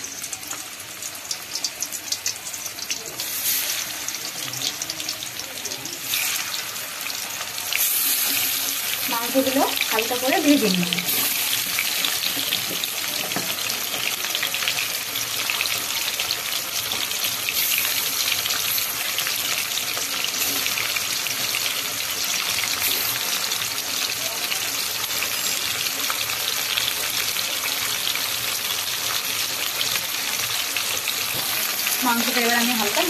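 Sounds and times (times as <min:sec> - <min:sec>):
chicken frying in oil: 0:00.0 - 0:33.0.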